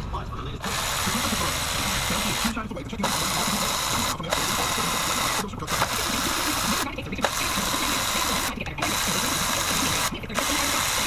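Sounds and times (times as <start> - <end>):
power tool running: 0.6 - 11.0.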